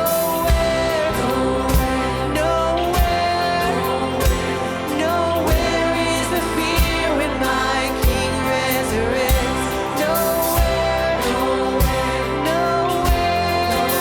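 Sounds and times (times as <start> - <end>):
person singing: 0.0 - 14.0
worship band playing: 0.0 - 14.0.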